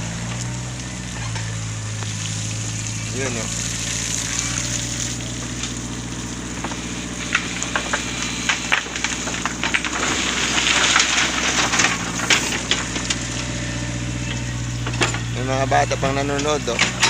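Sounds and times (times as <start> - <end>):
backhoe engine running: 0.0 - 17.0
sand and pebbles tipping into truck: 0.0 - 17.0.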